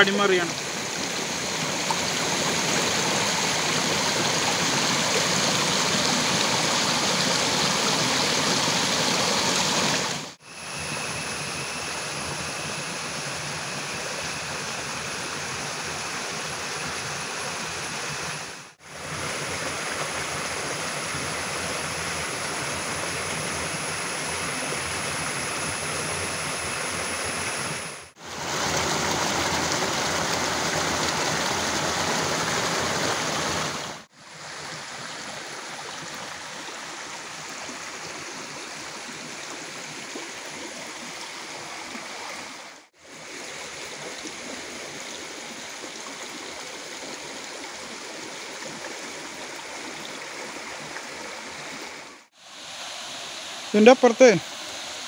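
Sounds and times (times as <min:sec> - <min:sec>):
stream gurgling over rocks: 0:00.0 - 0:55.0.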